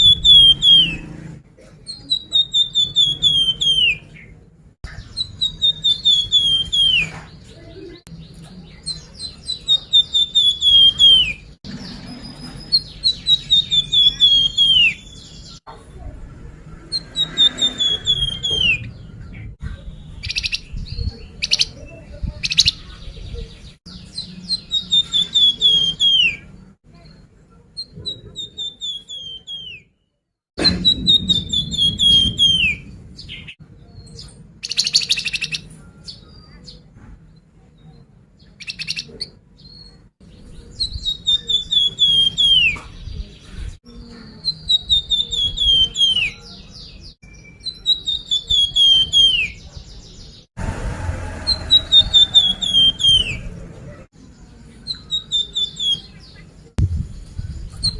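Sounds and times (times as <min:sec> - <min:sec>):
songbird chirping song: 0:00.0 - 0:50.6, 0:51.6 - 0:57.9.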